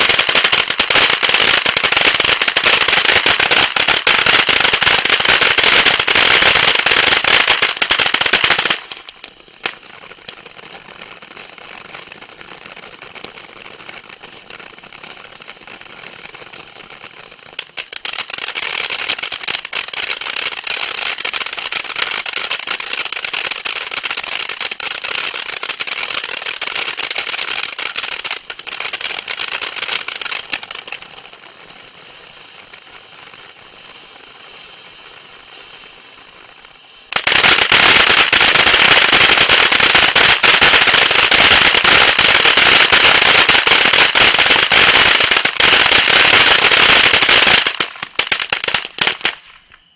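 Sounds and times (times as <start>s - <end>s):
firework crackling: 0.0s - 49.9s.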